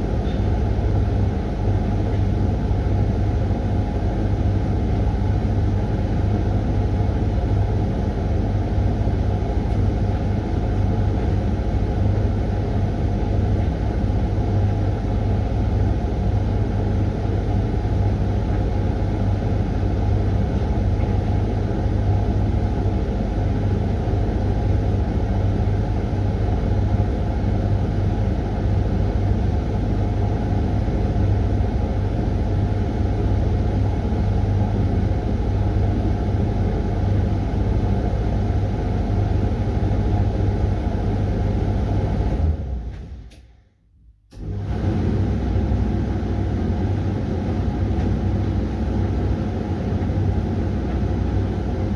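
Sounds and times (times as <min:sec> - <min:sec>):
washing machine running: 0:00.0 - 0:43.5, 0:44.3 - 0:51.9.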